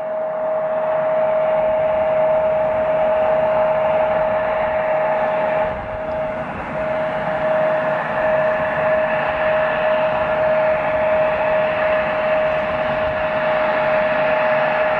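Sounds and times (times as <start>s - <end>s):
jet engines whining: 0.0s - 14.9s.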